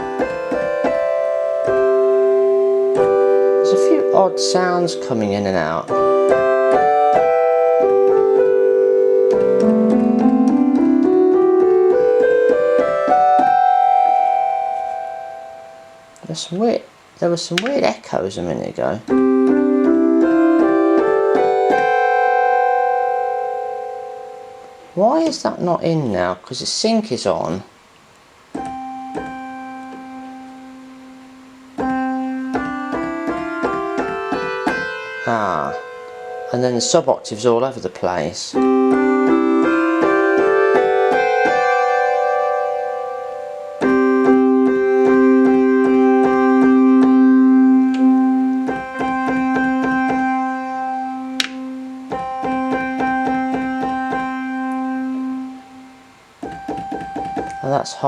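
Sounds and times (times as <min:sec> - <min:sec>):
synthesizer chords and notes: 0:00.0 - 0:16.8, 0:18.8 - 0:25.3, 0:28.6 - 0:37.5, 0:38.6 - 0:58.0.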